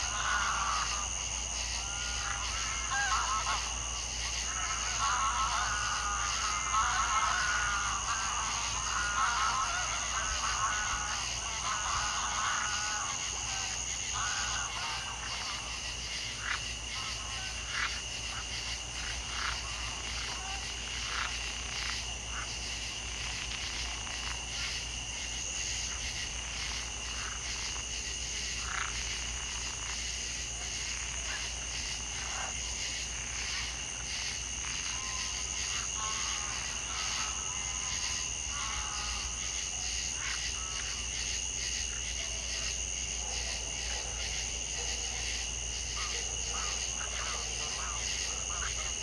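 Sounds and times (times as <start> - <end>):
higher insect tone: 0.0 - 43.0
frogs croaking: 0.0 - 49.0
steady insect trill: 0.0 - 49.0.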